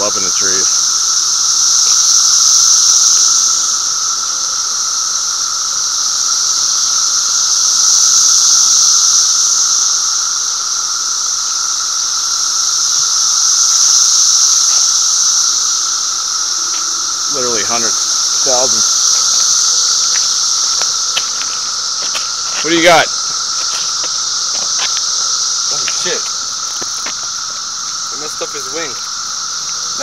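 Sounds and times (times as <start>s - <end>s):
cicadas high-pitched whine: 0.0s - 30.0s.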